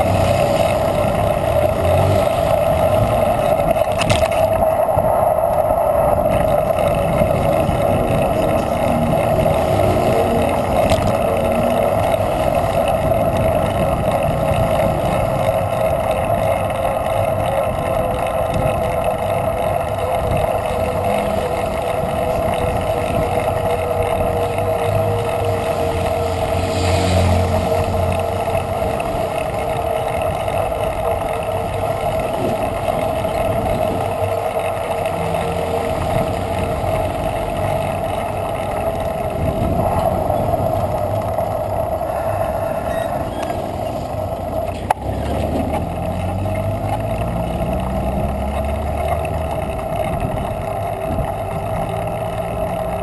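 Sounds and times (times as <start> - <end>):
passing motor traffic rumble: 0.0 - 53.0
wind and road noise from bicycle: 0.0 - 53.0.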